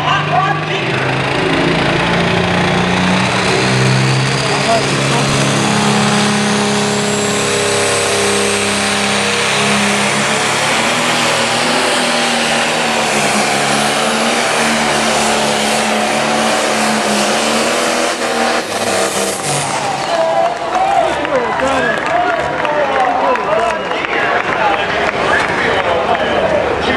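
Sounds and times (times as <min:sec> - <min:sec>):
tractor diesel engine running: 0:00.0 - 0:23.7.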